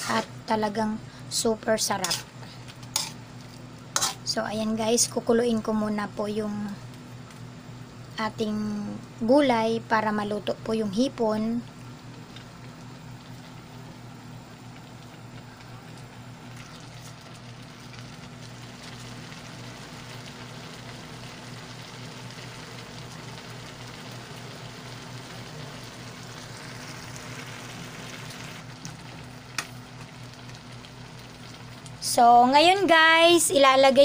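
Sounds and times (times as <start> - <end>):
food sizzling in a wok: 0.0 - 6.2, 11.8 - 33.6
low steady hum: 0.0 - 34.0.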